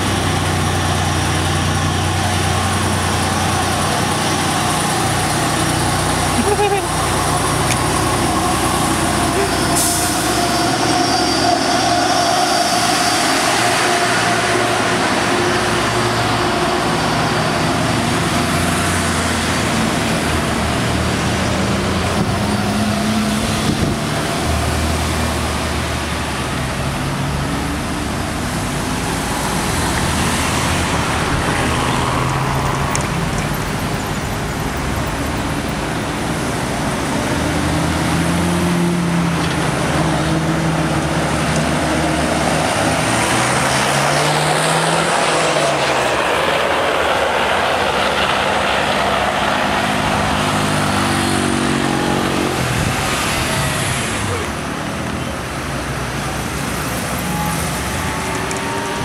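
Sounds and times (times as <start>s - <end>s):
road traffic passing close: 0.0s - 59.0s.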